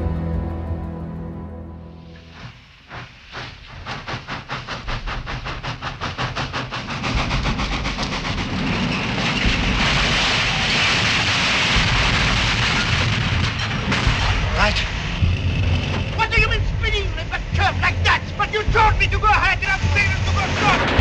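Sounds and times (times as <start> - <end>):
rush of steam and wheel noise: 2.1 - 21.0
steam locomotive chuffing: 2.2 - 21.0.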